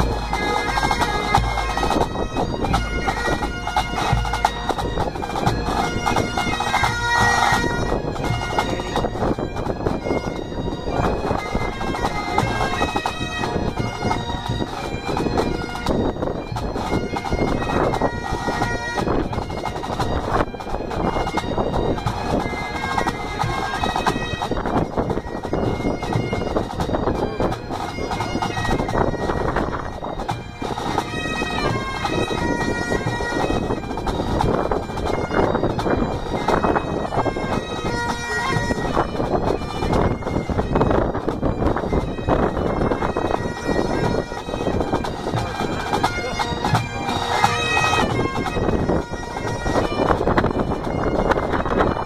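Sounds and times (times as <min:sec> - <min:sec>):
bagpipes playing: 0:00.0 - 0:52.0.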